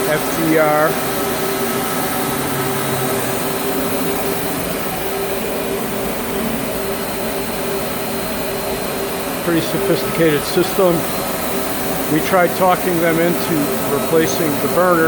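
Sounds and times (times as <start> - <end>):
boiler burner rushing: 0.0 - 15.0
constant hum: 0.0 - 15.0.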